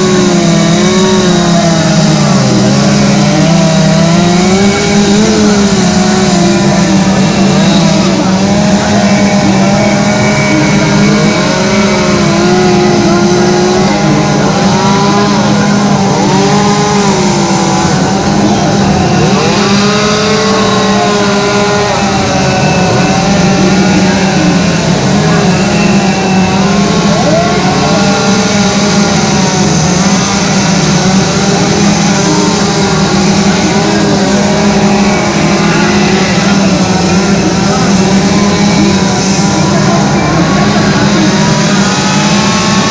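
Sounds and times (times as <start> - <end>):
chainsaws revving: 0.0 - 42.9.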